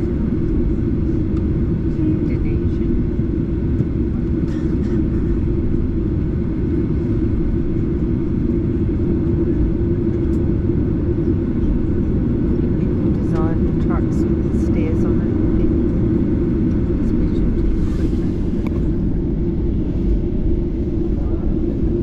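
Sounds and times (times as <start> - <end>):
jet engine cabin noise: 0.0 - 22.0.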